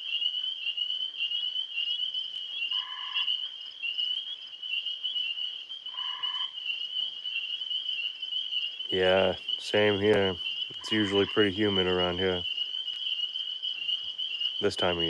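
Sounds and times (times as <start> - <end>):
low-pitched frog calls: 0.0 - 15.0
tree frogs calling: 0.0 - 15.0.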